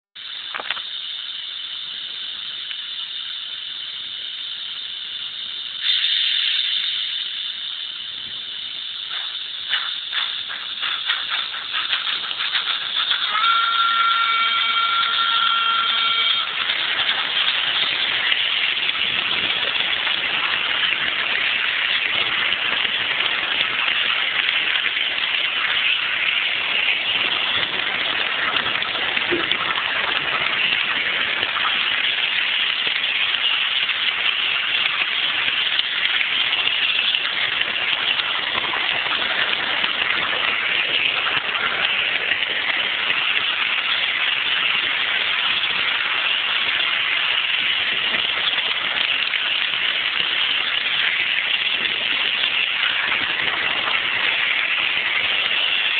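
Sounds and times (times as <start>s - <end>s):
model train motor running: 0.2s - 55.9s
model train wheels rattling on track: 0.2s - 55.9s.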